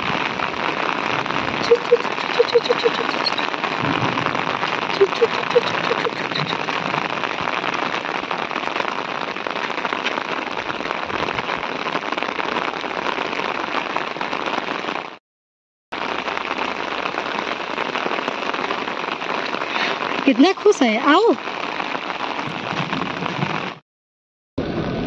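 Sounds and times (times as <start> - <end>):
rain on wet road: 0.0 - 15.2, 16.0 - 23.8.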